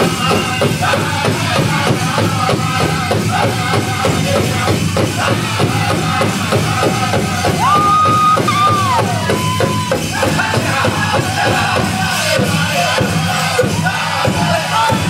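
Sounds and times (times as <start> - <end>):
big drum fast beat: 0.0 - 15.0
high-pitched group singing: 0.0 - 15.0.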